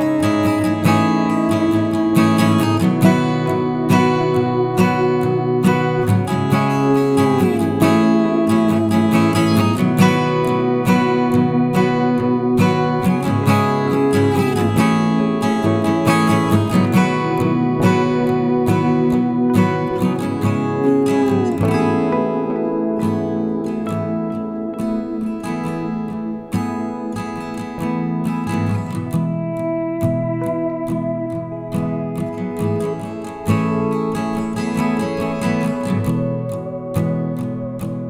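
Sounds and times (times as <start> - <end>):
strummed acoustic guitar: 0.0 - 38.0.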